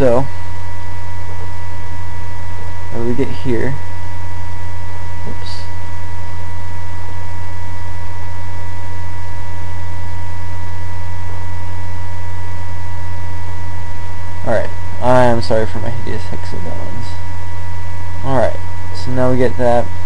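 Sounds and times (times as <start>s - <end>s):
electrical hum and hiss: 0.0s - 20.0s
faint high whining tones: 0.0s - 20.0s.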